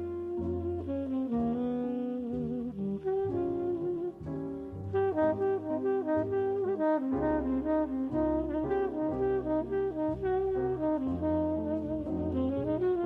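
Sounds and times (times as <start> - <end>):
jazzy brass melody: 0.0 - 13.0
walking bass line: 0.0 - 13.0.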